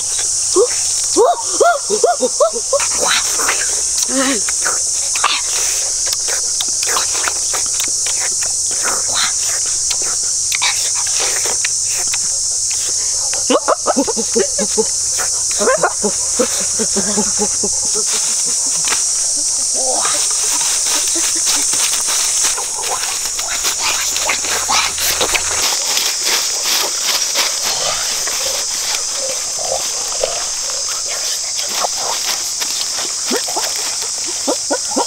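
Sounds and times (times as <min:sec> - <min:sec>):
high-pitched insect chorus: 0:00.0 - 0:35.0
voices: 0:00.0 - 0:35.0.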